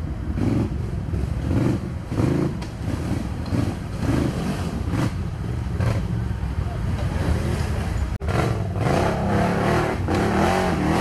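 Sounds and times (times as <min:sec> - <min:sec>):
quad bike engines revving: 0:00.0 - 0:11.0.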